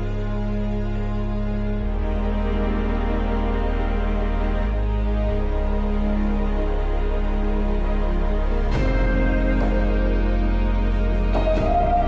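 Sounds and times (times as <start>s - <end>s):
slow held chords music: 0.0s - 12.0s.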